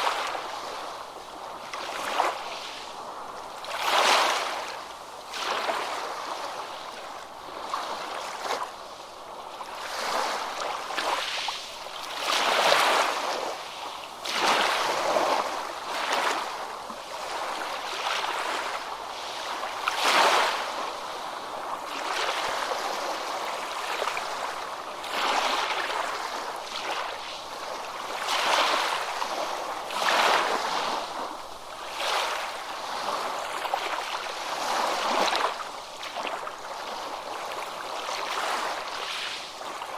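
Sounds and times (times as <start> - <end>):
ocean waves breaking: 0.0 - 8.7, 9.3 - 39.9.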